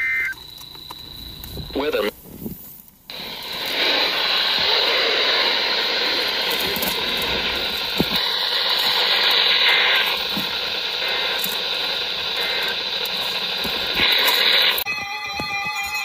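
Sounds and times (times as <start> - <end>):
radio static hiss: 0.0 - 14.9.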